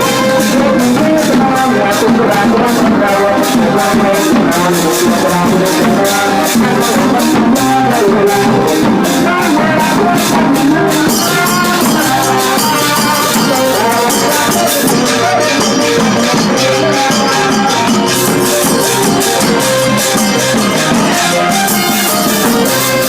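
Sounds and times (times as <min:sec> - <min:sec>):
brass band playing: 0:00.0 - 0:23.0
cymbals: 0:00.0 - 0:23.0
drum beat: 0:00.0 - 0:23.0.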